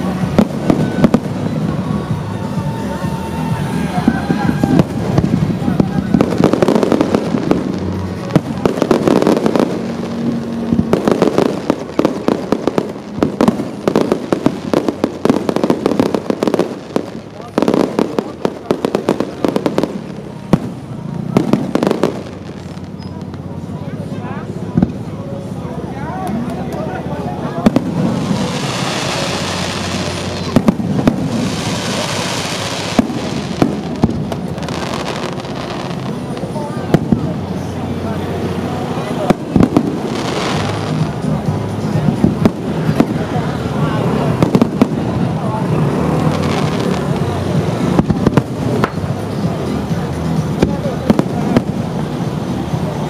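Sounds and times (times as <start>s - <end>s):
fireworks bangs and crackles: 0.0s - 53.0s
steady background rush: 0.0s - 53.0s.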